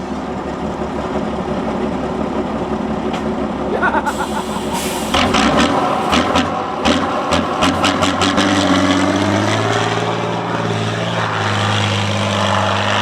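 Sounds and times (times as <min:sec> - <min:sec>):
diesel truck engine under load: 0:00.0 - 0:13.0.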